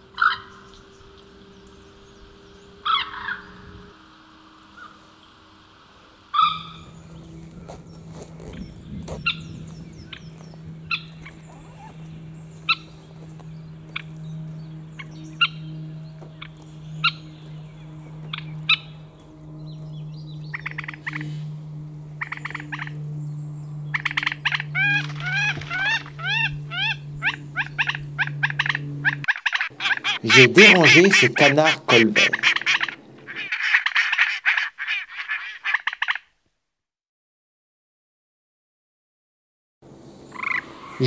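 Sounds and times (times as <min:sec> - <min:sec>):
steady low hum: 0:00.0 - 0:34.2
birds calling: 0:00.0 - 0:36.3, 0:39.9 - 0:41.0.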